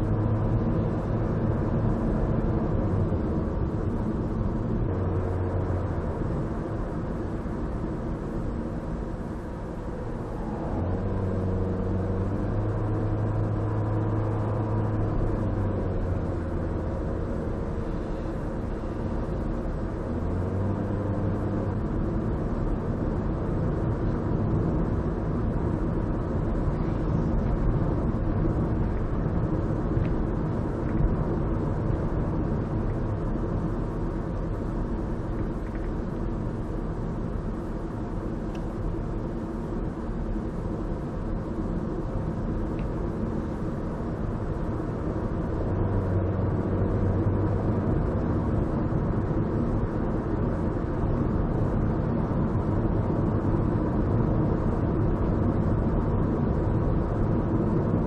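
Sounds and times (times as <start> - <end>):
car interior road noise: 0.0 - 58.0.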